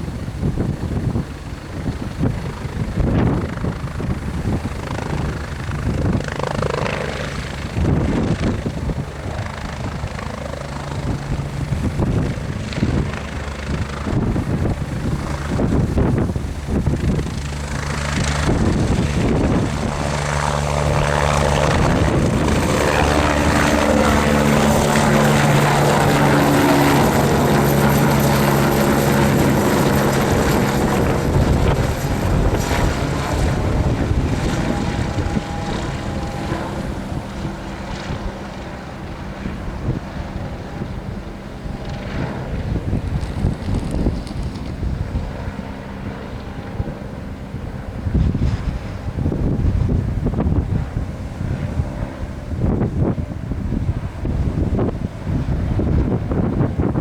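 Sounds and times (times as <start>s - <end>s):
helicopter rotor and engine: 0.0s - 57.0s
wind buffeting microphone: 0.0s - 57.0s.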